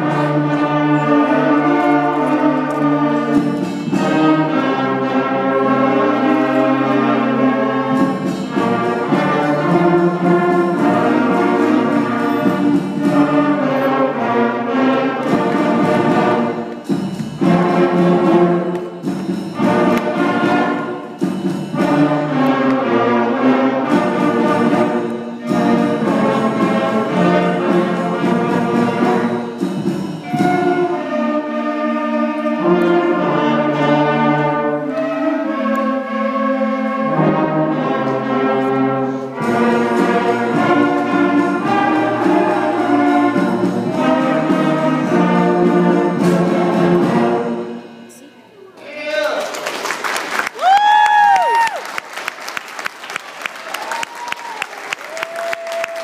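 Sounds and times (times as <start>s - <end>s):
school concert band playing: 0.0s - 56.0s.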